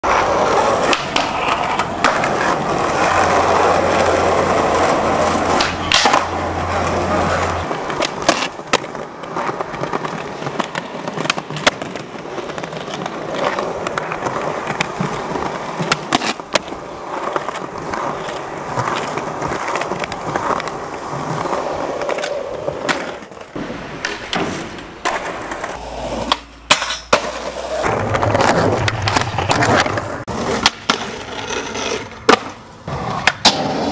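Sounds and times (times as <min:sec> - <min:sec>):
skateboard clacks: 0:00.0 - 0:33.9
skateboard wheels rolling on concrete: 0:00.0 - 0:33.9.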